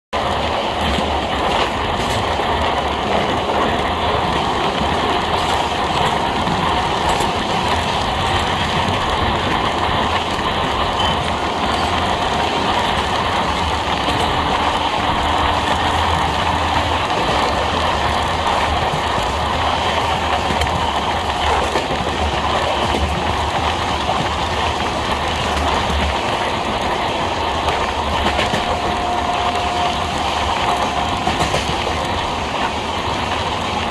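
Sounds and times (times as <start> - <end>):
train wheels on rails: 0.1 - 33.9.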